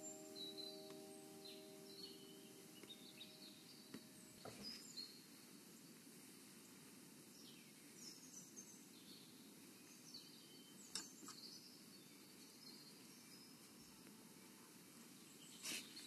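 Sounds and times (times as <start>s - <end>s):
faint background hiss: 0.0s - 16.0s
songbirds chirping: 0.0s - 16.0s.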